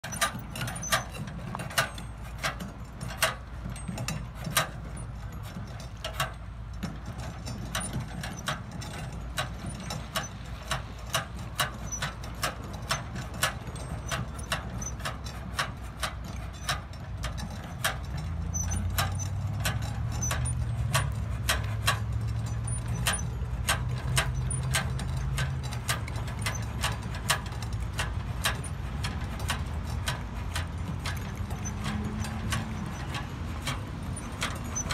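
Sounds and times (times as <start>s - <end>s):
metallic clicks and rattles: 0.0s - 34.9s.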